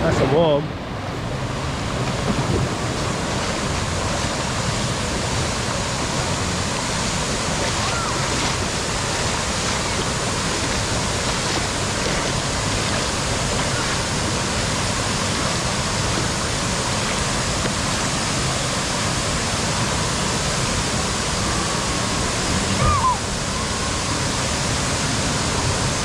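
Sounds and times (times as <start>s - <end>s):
waterfalls pouring: 0.0s - 26.0s
waves rushing: 0.0s - 26.0s.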